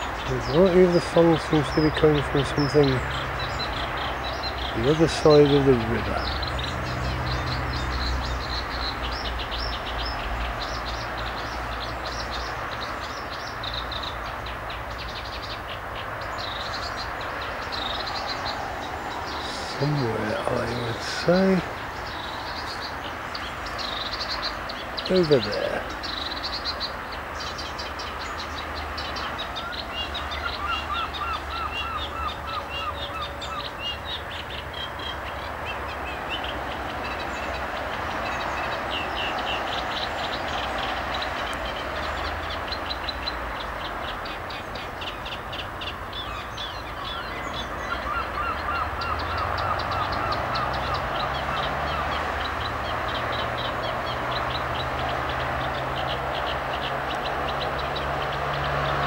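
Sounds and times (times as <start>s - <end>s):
birds chirping and trilling: 0.0s - 59.0s
road traffic rumble: 0.0s - 59.0s.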